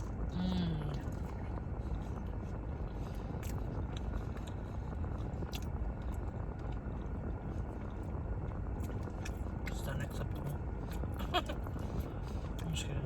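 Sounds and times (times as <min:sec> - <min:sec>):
chewing and crunching food: 0:00.0 - 0:13.0
low rumble in car cabin: 0:00.0 - 0:13.0.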